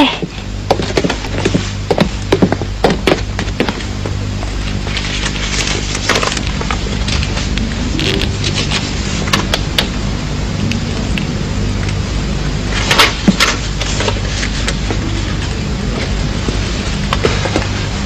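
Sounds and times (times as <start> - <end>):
film hum and hiss: 0.0 - 18.0.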